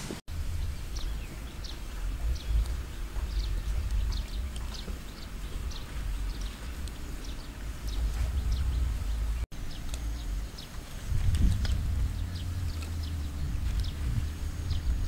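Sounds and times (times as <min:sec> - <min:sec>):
wind buffeting microphone: 0:00.0 - 0:15.0
small birds chirping: 0:00.3 - 0:15.0.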